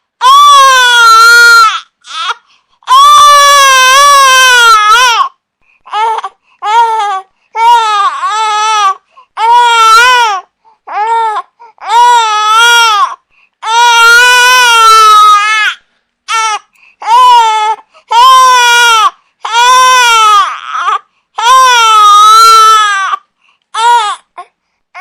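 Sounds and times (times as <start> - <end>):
infant crying: 0.2 - 25.0.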